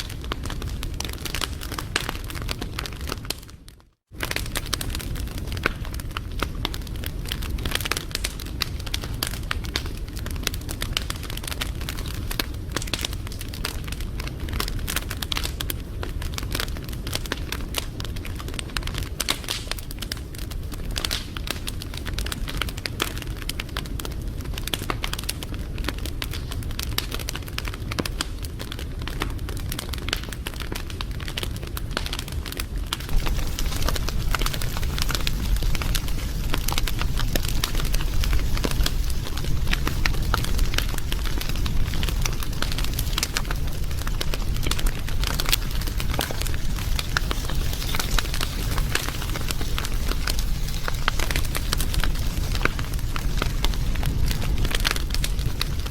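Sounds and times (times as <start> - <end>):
fire crackling: 0.0 - 55.9.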